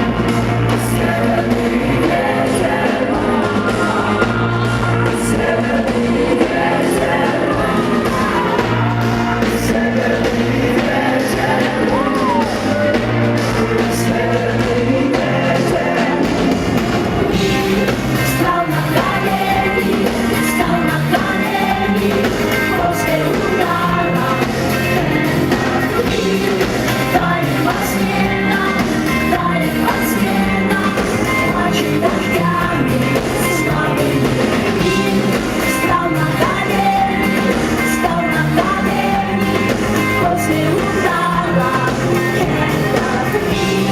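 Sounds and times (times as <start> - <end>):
live band music: 0.0 - 43.9
woman singing: 0.7 - 16.5, 17.4 - 43.9.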